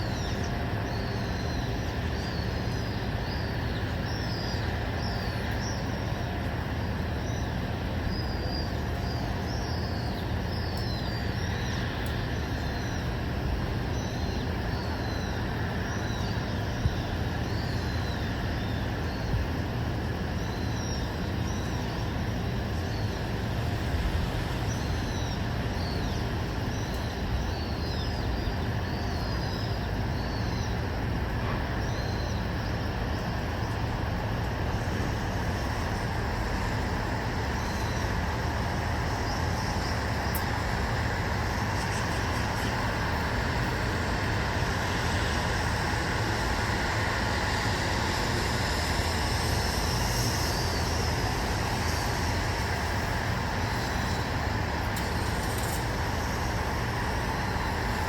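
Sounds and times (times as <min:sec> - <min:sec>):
distant traffic rumble: 0:00.0 - 0:58.0
small birds chirping: 0:00.0 - 0:58.0.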